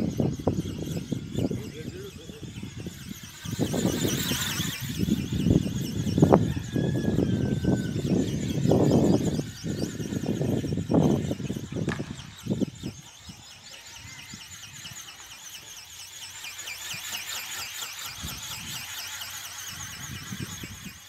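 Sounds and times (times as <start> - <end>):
electric motor whine wavering: 0.0 - 21.0.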